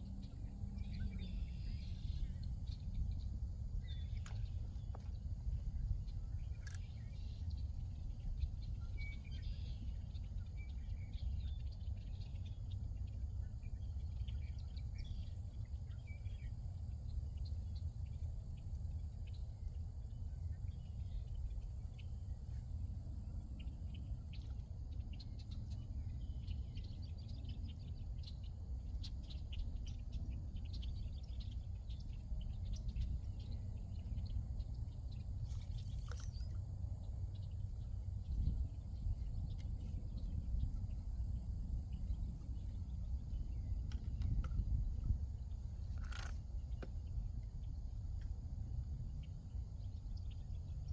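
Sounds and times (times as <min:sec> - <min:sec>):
steady low rumble: 0:00.0 - 0:50.9
wildlife chirps and calls: 0:00.2 - 0:16.5, 0:20.7 - 0:50.9.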